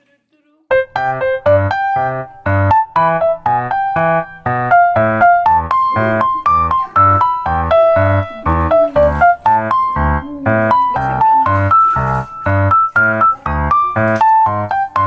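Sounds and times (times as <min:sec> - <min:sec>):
electronic keyboard melody: 0:00.7 - 0:15.0.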